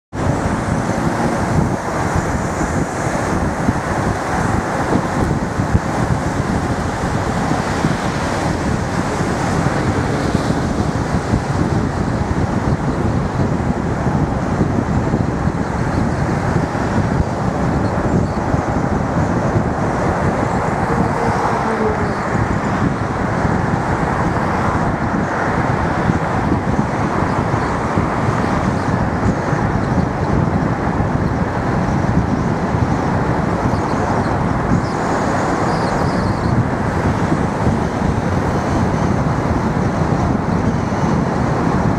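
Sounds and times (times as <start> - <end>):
car tyre and engine noise: 0.1 - 41.9
wind rush: 0.1 - 41.9.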